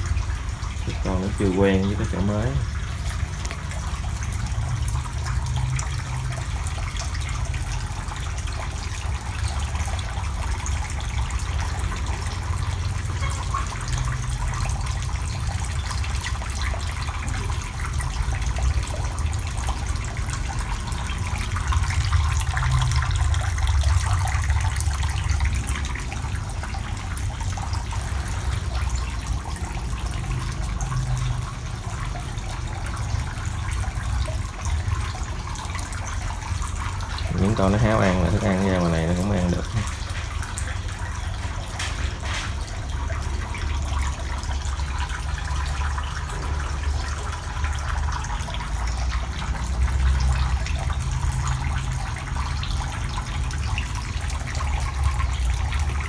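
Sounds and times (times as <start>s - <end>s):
water trickling into a tank: 0.0s - 56.0s.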